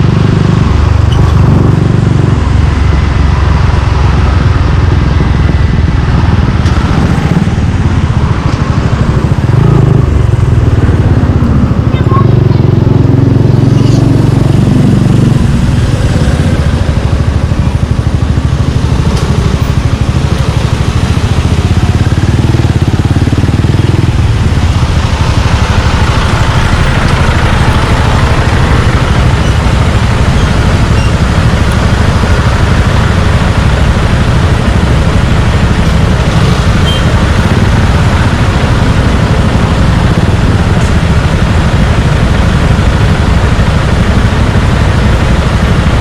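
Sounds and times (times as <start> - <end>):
motorcycle engine running loud: 0.0 - 46.0
rushing noise: 0.0 - 46.0.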